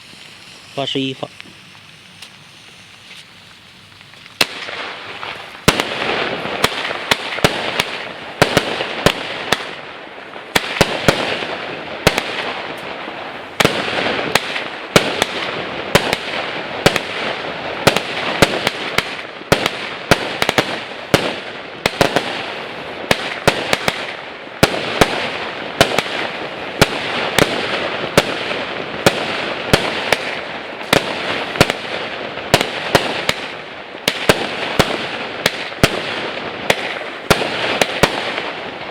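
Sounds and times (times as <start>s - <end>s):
firework launch pops: 0.0s - 9.8s, 13.6s - 22.4s, 23.1s - 38.9s
firework hiss and crackle: 0.0s - 38.9s.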